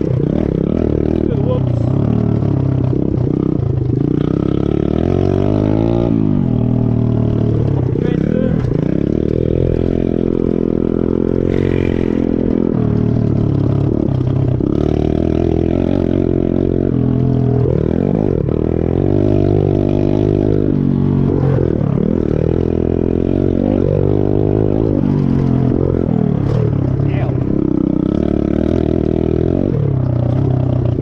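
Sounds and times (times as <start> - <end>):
pit bike engine revving: 0.0 - 31.0.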